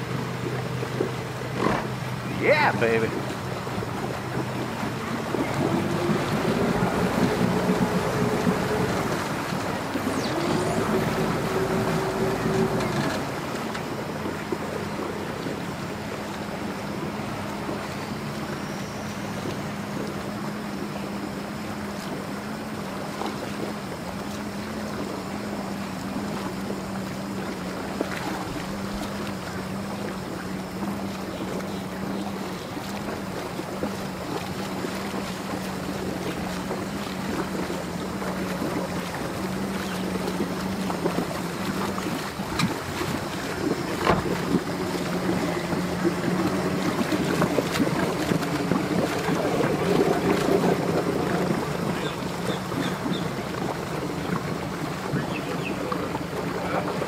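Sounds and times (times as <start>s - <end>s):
boat engine idling: 0.0s - 57.0s.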